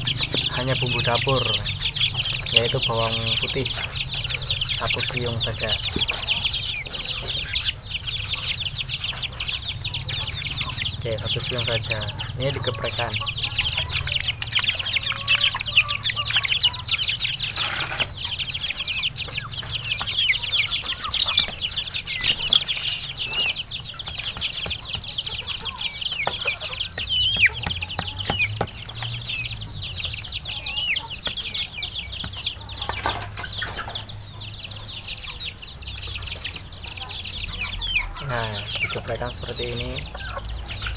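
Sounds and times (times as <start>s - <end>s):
chicks peeping and chirping: 0.0s - 40.9s.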